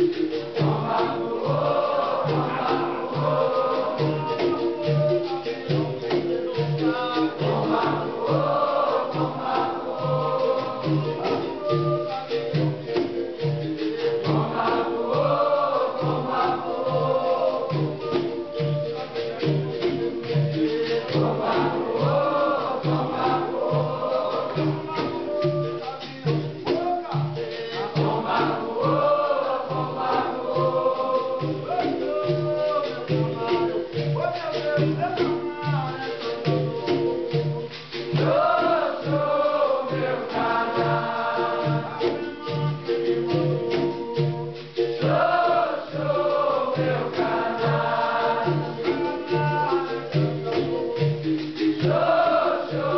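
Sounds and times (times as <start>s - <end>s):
berimbaus and shakers: 0.0s - 52.9s
chorus singing call-and-response: 0.0s - 52.9s
steady low drum beat: 0.0s - 52.9s.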